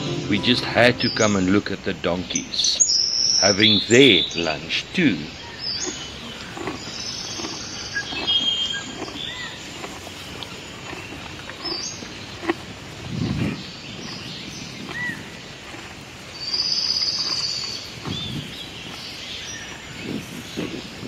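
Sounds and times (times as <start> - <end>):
small birds chirping: 0.9 - 21.0
donkeys feeding on hay: 2.2 - 21.0.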